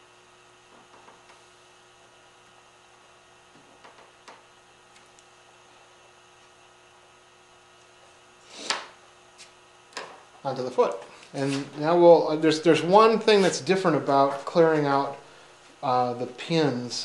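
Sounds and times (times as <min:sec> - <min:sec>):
low mains hum: 0:00.0 - 0:17.0.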